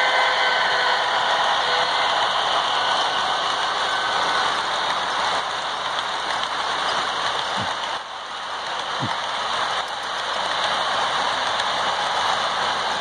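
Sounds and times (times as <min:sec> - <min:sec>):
model train wheels clattering: 0:00.5 - 0:13.0.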